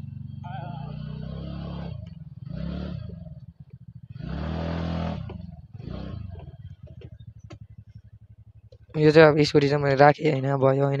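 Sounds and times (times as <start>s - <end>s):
scooter engine idling: 0.0s - 1.3s, 1.9s - 11.0s
scooter throttle blips: 0.0s - 9.1s.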